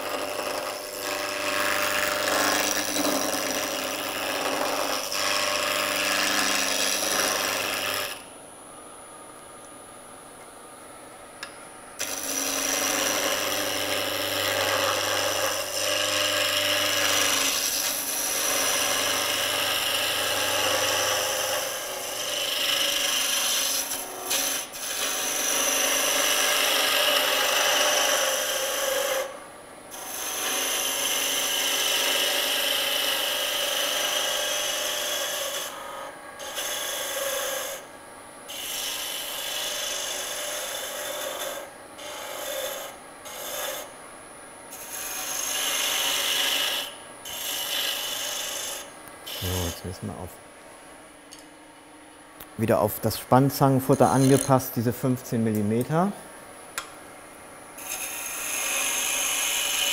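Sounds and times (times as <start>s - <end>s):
lathe tool scraping wood: 0.0s - 8.3s, 12.0s - 37.9s, 38.5s - 43.9s, 44.7s - 50.2s, 52.6s - 56.2s, 57.8s - 59.9s.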